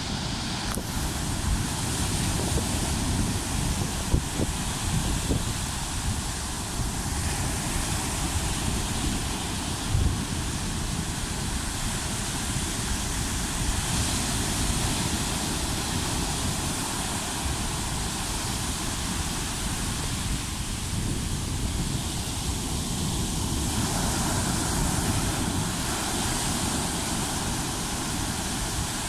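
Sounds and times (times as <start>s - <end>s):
sea waves washing on shore: 0.0s - 29.0s
wind buffeting microphone: 0.0s - 29.0s.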